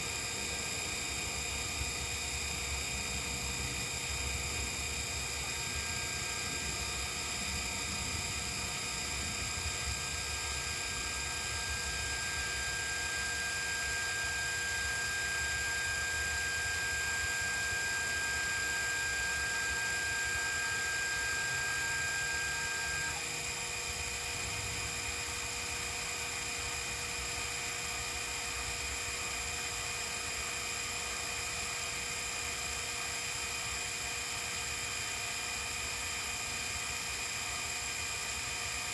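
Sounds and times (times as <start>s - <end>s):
mill motor whirring: 0.0s - 38.9s.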